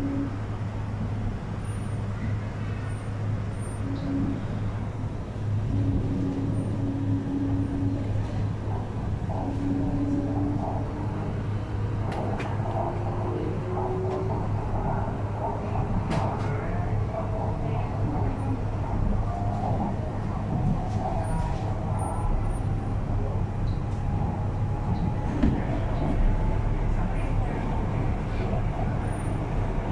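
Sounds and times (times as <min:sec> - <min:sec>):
train wheels rumbling on track: 0:00.0 - 0:29.9.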